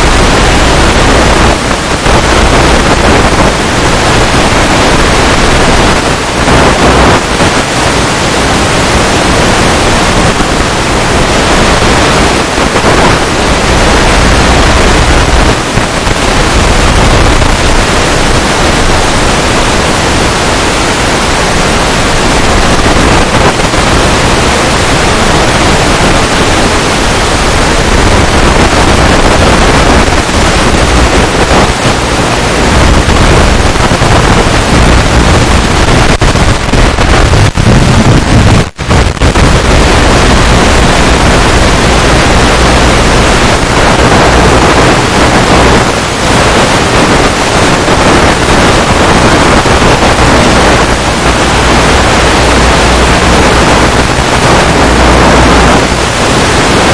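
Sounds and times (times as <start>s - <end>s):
loud static hiss: 0.0s - 56.9s.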